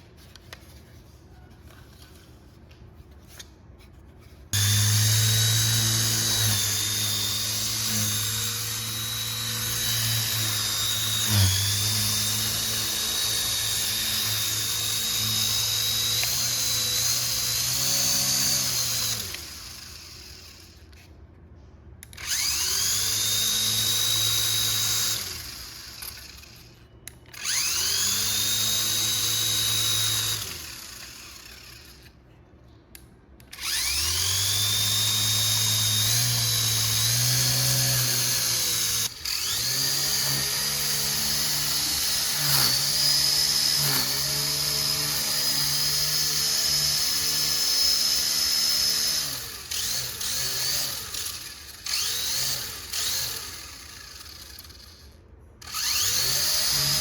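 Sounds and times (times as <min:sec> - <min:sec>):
toy car electric motor whining: 0:04.5 - 0:21.1, 0:22.1 - 0:32.2, 0:33.5 - 0:57.0.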